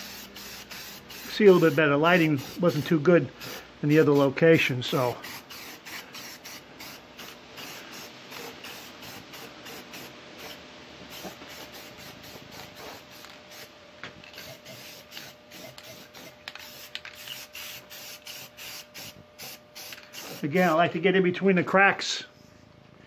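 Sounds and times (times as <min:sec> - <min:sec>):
spray paint can hissing: 0:00.0 - 0:04.3, 0:05.0 - 0:20.7.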